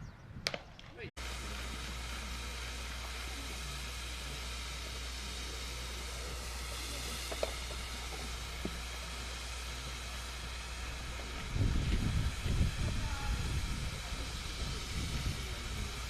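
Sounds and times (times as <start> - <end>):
background hiss: 1.2 - 16.0.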